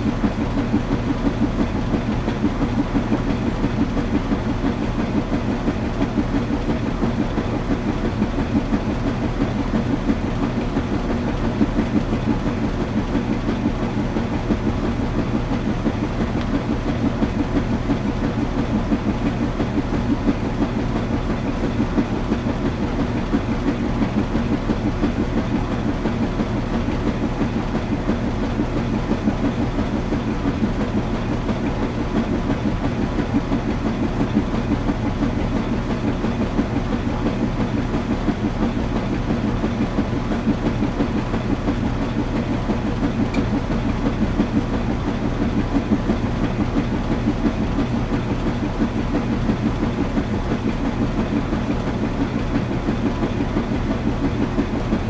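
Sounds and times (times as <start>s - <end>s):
washing machine churning: 0.0s - 55.0s.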